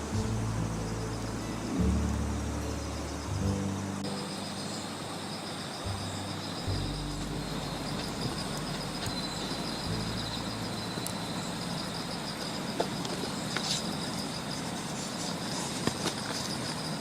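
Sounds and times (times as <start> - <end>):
low hum: 0.0 - 15.1
campfire crackles: 0.0 - 17.0
insects chirring: 0.0 - 17.0.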